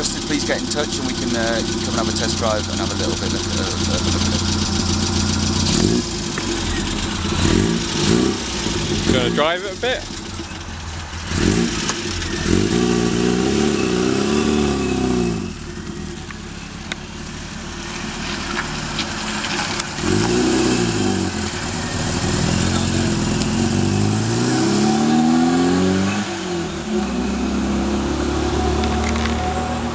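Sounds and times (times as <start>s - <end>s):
car engine driving off: 0.0s - 29.9s.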